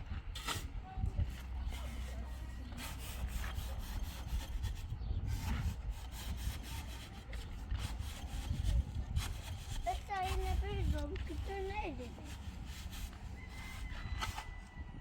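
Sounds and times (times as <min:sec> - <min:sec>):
rubbing and scraping strokes: 0:00.3 - 0:14.9.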